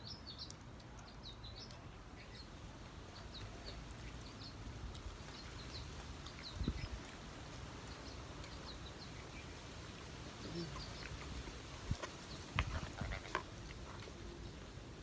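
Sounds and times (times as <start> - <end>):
birds chirping softly: 0.0 - 15.0.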